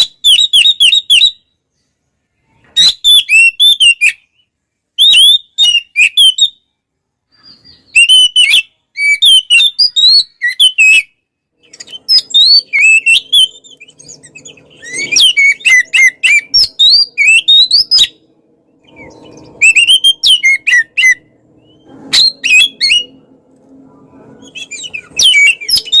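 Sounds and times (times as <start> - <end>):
bird singing whistled phrases: 0.0 - 1.6, 2.5 - 6.6, 7.3 - 18.2, 18.8 - 23.2, 24.4 - 26.0.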